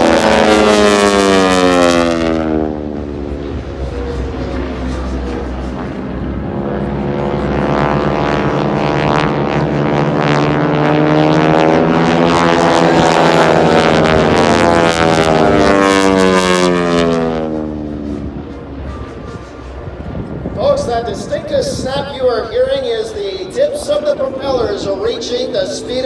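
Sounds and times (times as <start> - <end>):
propeller planes flying past: 0.0 - 26.0.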